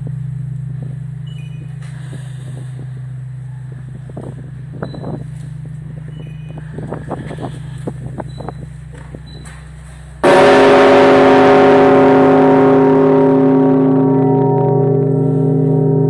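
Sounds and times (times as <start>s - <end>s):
large bell clanging: 0.0s - 16.0s
steady low hum: 0.0s - 16.0s.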